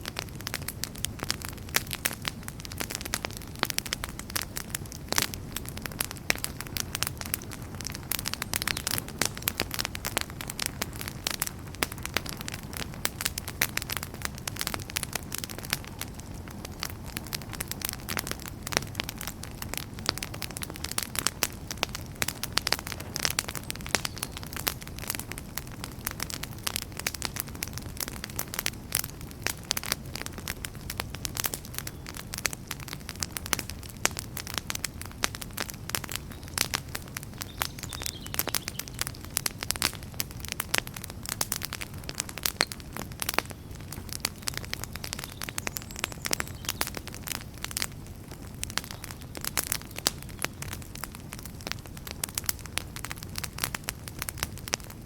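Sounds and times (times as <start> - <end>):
campfire crackling: 0.0 - 55.0
low rumble of fire: 0.0 - 55.0.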